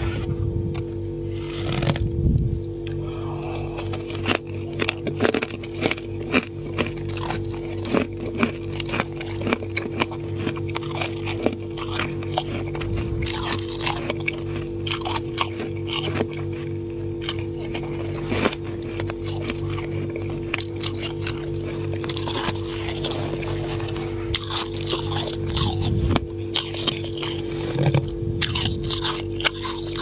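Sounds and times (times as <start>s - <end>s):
steady low hum: 0.0s - 30.0s
mouth crunching frost: 1.2s - 30.0s.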